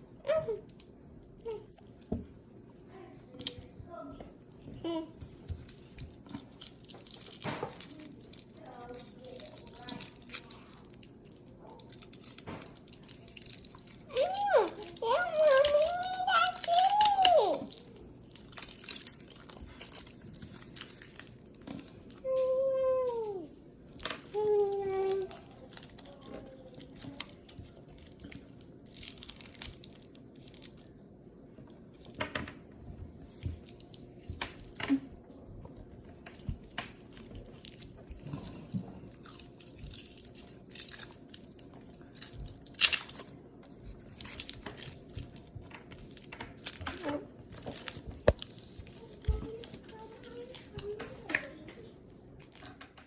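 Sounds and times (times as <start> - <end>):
crunching and chewing: 3.2 - 53.0
wrappers tearing and crinkling: 4.8 - 31.0, 36.2 - 53.0.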